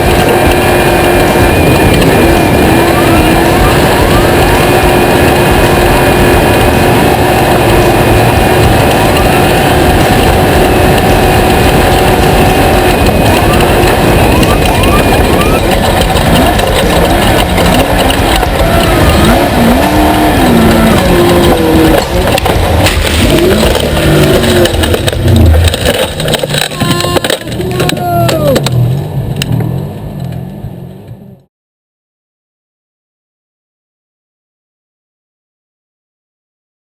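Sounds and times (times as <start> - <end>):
race vehicle engines revving: 0.0 - 31.5.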